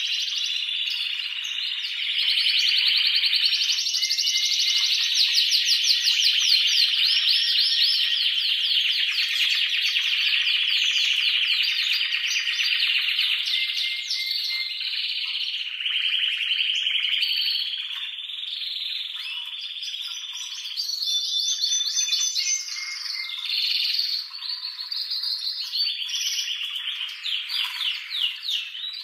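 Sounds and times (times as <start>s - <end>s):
canary singing trills: 0.0s - 29.0s.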